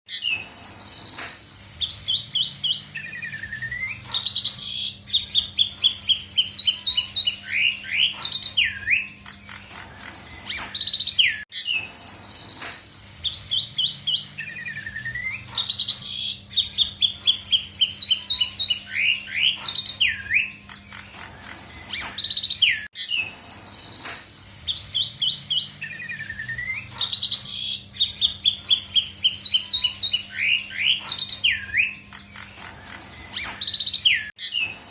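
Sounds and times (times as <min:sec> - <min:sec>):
starling singing whistles: 0:00.1 - 0:34.9.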